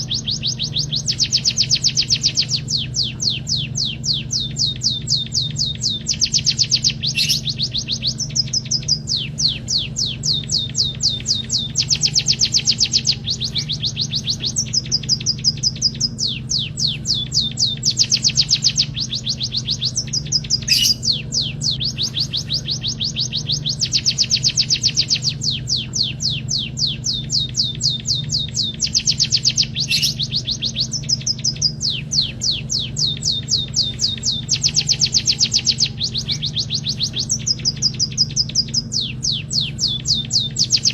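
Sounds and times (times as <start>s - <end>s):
bird chirping high and fast: 0.0s - 40.9s
steady low hum: 0.0s - 40.9s.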